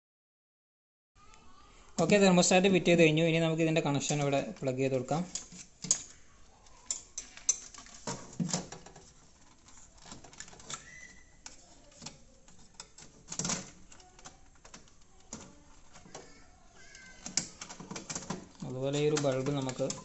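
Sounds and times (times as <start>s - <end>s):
plastic parts clicking and knocking: 1.9s - 2.8s, 3.6s - 20.0s.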